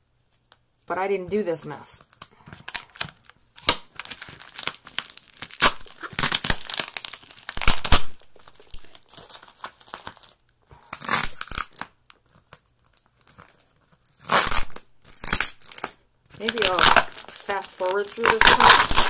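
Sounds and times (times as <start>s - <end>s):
packing tape being cut and pulled: 2.1s - 19.0s.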